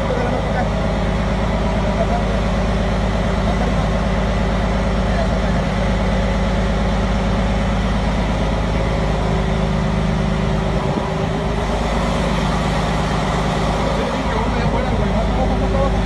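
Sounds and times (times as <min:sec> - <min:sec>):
motor droning: 0:00.0 - 0:16.0.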